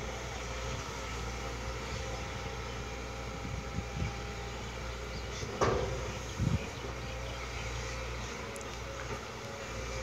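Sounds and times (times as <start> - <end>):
diesel engines running: 0.0 - 10.0.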